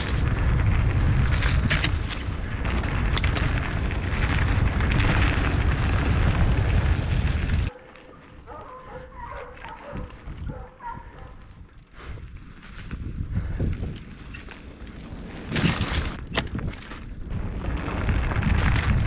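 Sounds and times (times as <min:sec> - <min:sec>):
wind buffeting microphone: 0:00.0 - 0:07.7, 0:08.4 - 0:19.0
mountain bike rattling over dirt: 0:00.0 - 0:19.0.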